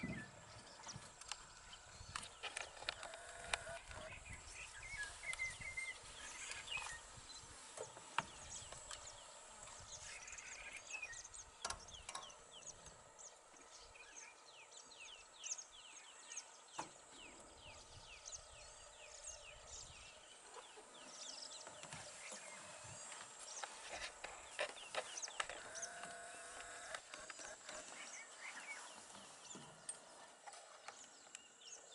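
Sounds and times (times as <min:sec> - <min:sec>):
faint birds chirping: 0:00.0 - 0:31.9.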